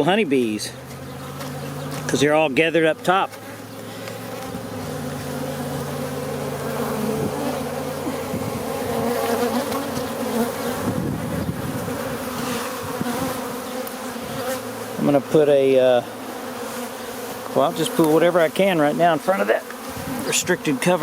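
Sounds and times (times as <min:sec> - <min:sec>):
honeybees buzzing: 0:00.0 - 0:21.0
single bee flying past: 0:00.8 - 0:02.3, 0:03.0 - 0:21.0.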